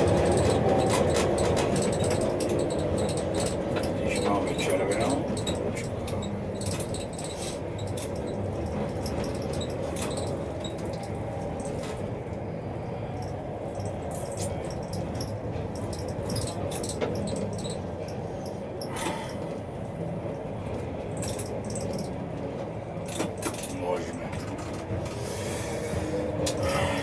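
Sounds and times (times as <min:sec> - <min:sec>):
low hum in tram cab: 0:00.0 - 0:27.0.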